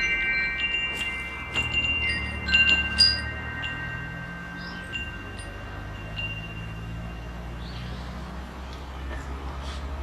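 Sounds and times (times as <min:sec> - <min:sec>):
metal wind chimes ringing: 0:00.0 - 0:09.1.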